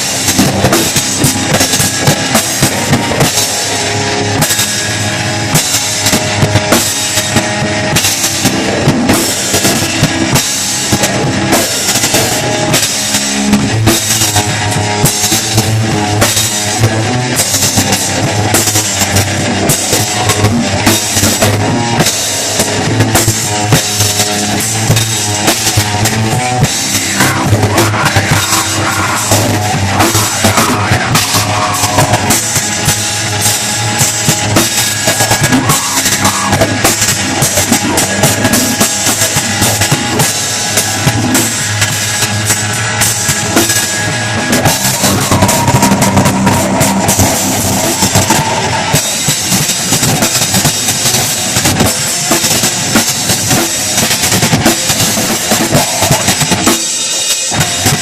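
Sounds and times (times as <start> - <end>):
drum kit fast beats: 0.0 - 58.0
rock music: 0.0 - 58.0.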